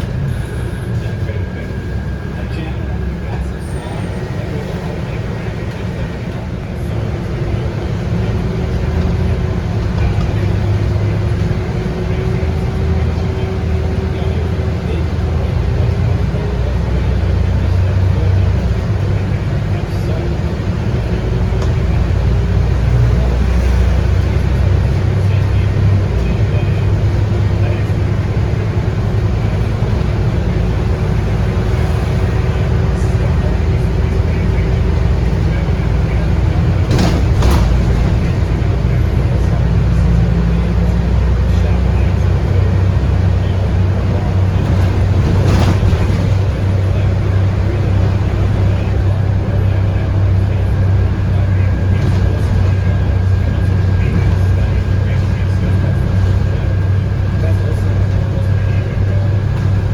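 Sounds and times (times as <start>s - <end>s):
diesel bus engine drone: 0.0s - 59.9s
road noise: 0.0s - 59.9s.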